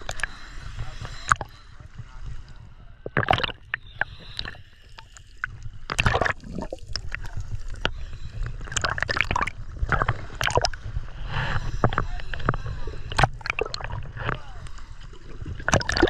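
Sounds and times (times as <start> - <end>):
small waves rumbling: 0.0 - 16.0
water splashing against camera: 0.0 - 16.0.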